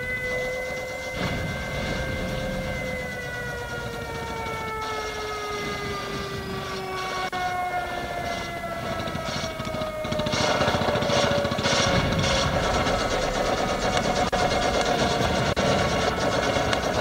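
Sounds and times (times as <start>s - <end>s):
droning tone: 0.0s - 17.0s
low rumbling noise: 0.0s - 17.0s.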